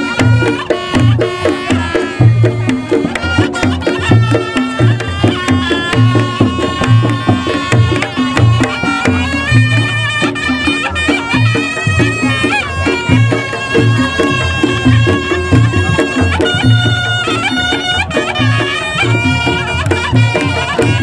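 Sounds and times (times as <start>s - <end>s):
drums beating driving pattern: 0.0s - 21.0s
reedy wind instrument melody: 0.0s - 21.0s.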